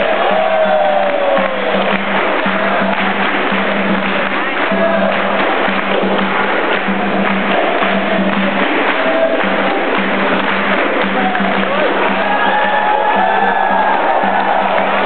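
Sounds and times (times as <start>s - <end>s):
berimbau and pandeiro rhythm: 0.0s - 15.0s.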